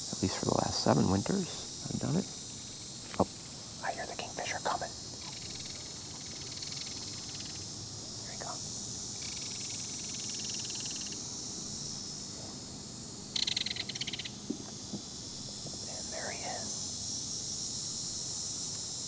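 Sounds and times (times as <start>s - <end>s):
insects buzzing: 0.0s - 19.0s
insects trilling rapidly: 0.0s - 19.0s.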